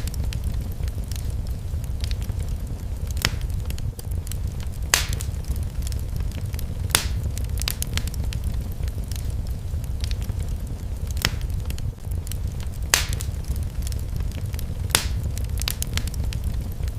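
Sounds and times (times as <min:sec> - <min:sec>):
fire crackling in a fireplace: 0:00.0 - 0:16.9.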